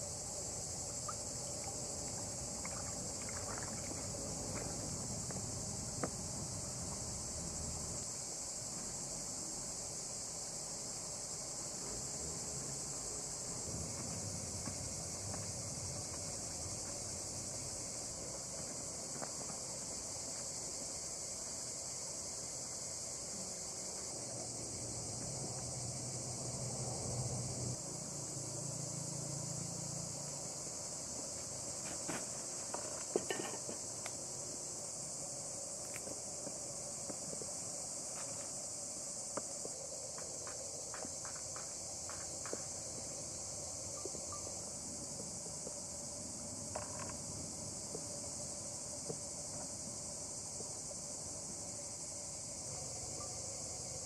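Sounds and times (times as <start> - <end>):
forest insects chorus: 0.0 - 54.0.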